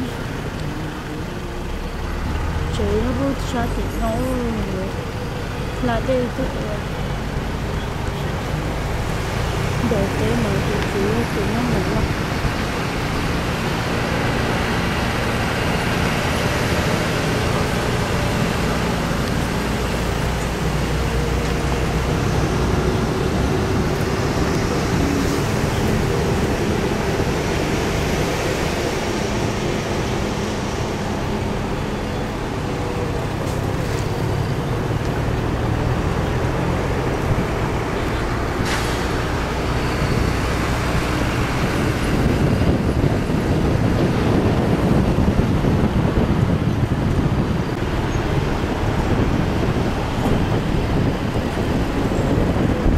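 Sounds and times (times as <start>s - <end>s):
road noise: 0.0s - 52.9s
vehicle engine hum: 0.0s - 52.9s.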